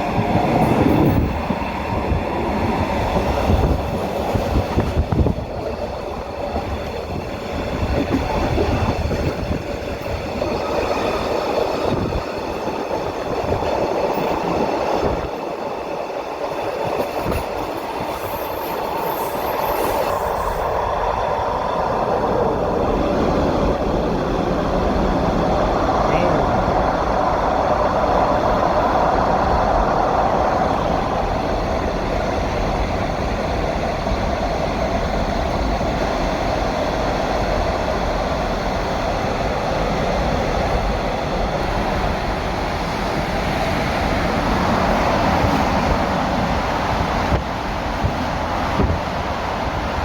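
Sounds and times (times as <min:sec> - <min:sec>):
train rumbling in tunnel: 0:00.0 - 0:50.0.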